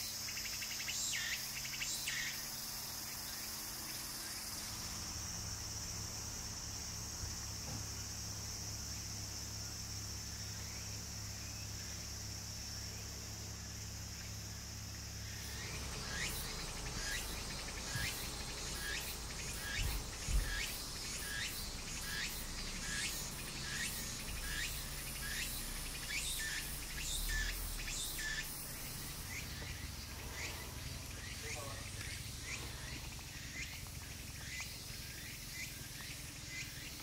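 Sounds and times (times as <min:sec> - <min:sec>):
cicada chirping: 0:00.0 - 0:37.0.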